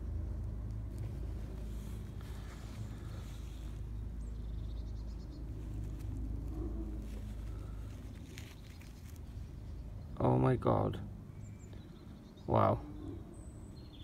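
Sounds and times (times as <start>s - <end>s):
faint bird chirping: 2.0s - 14.0s.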